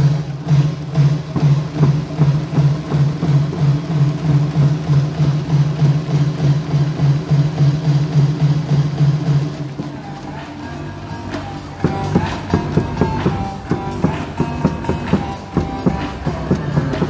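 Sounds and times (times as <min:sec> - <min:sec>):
drumbeat pounding: 0:00.0 - 0:17.0.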